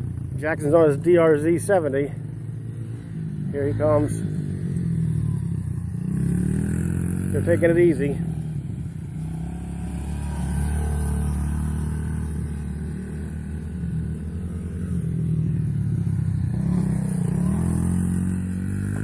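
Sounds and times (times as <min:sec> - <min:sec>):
dirt bike engines: 0:00.0 - 0:19.0.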